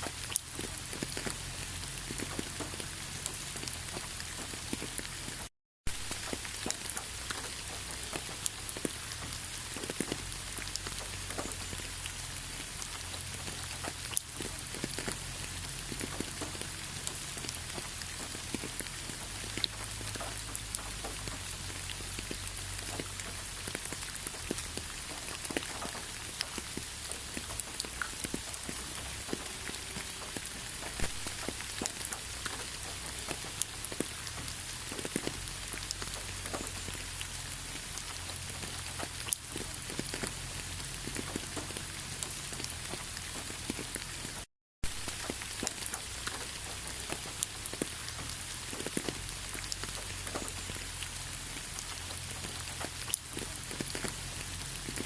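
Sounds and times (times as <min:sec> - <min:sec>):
raindrops pattering on surfaces: 0:00.0 - 0:55.0
steady rain falling: 0:00.0 - 0:55.0.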